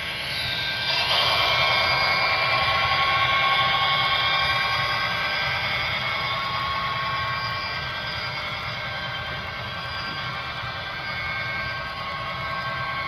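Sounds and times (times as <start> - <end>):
model train whine and rumble: 0.0 - 13.0.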